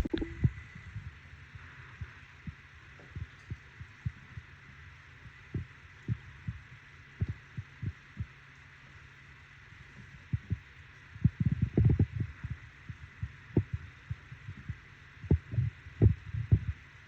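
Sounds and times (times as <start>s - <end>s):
broth bubbling at a boil: 0.0s - 17.0s
faint steady hum: 0.0s - 17.0s.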